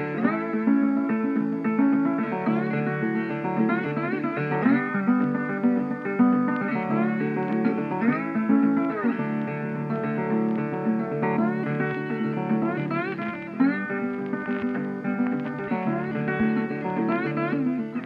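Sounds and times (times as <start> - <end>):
plucked guitar music: 0.0 - 18.0.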